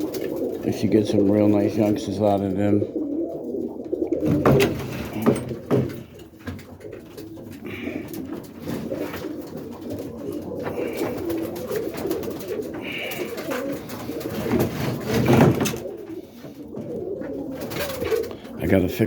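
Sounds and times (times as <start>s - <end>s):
knocks and rustles among birds: 0.0s - 2.4s, 3.0s - 18.6s
pigeons cooing: 0.0s - 19.0s.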